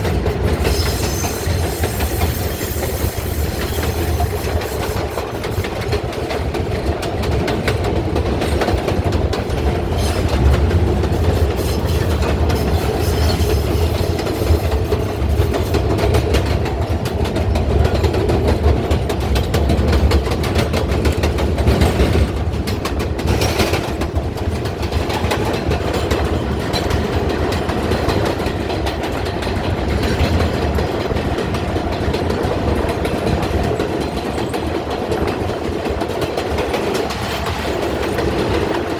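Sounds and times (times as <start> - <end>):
subway train rumbling: 0.0 - 38.9
wheels clacking over rail joints: 0.0 - 38.9.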